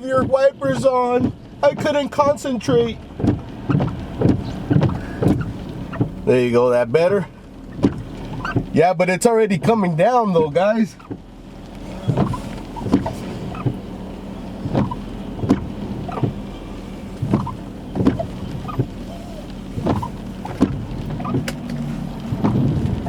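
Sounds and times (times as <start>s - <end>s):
car hum: 0.0s - 23.0s
rain: 0.0s - 23.0s
windshield wipers swishing: 0.0s - 23.0s.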